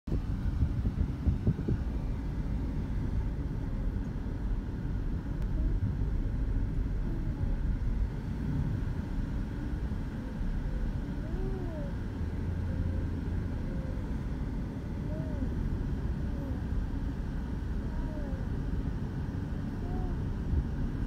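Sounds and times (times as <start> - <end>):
car engine and tyres rumbling: 0.1 - 21.0.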